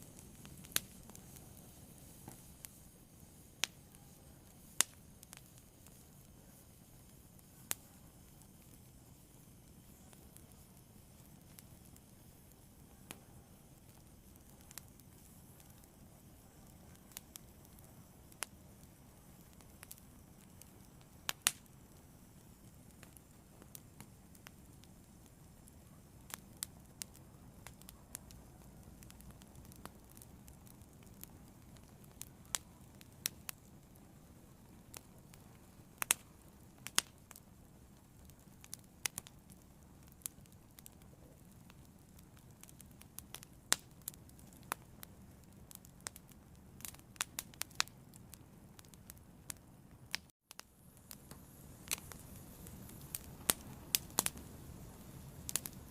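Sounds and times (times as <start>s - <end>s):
faint low hiss: 0.0s - 55.9s
fire crackling and popping: 0.0s - 55.9s.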